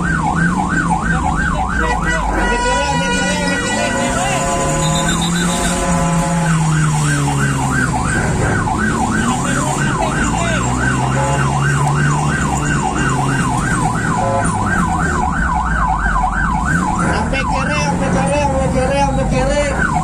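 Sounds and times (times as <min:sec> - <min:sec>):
electronic siren: 0:00.0 - 0:20.0
vehicle engine hum: 0:00.0 - 0:20.0.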